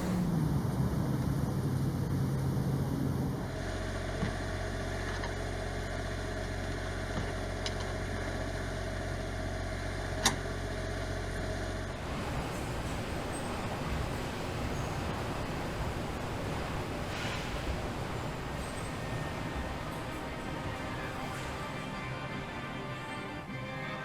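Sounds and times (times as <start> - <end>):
steady machine hum: 0.0 - 7.1, 11.7 - 24.0.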